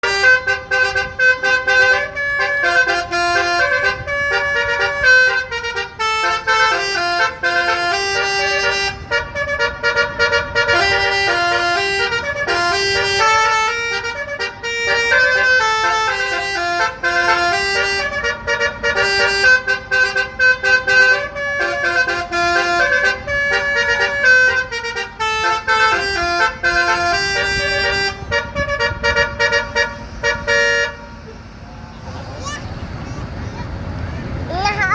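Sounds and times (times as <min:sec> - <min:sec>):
bus air horn melody: 0:00.0 - 0:31.5.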